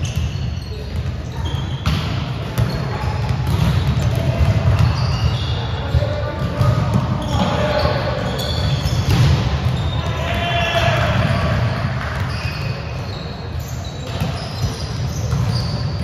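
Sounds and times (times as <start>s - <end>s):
volleyballs smacking in a hall: 0.0s - 16.0s.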